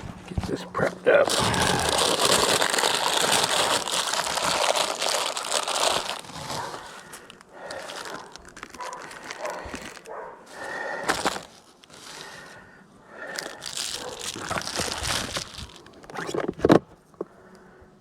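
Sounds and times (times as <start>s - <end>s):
wrapping crinkling and rustling: 0.0s - 12.6s, 13.2s - 16.8s.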